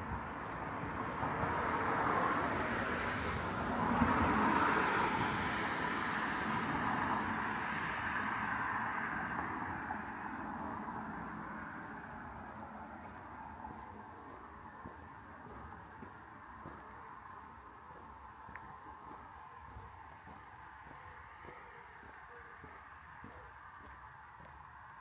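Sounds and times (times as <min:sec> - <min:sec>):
car driving past: 0:00.6 - 0:21.6.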